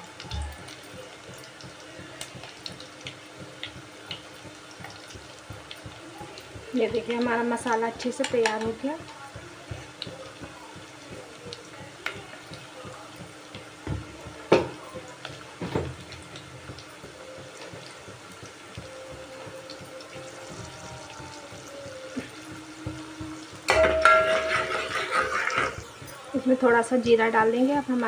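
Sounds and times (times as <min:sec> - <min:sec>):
onions sizzling in hot oil: 0:00.0 - 0:28.0.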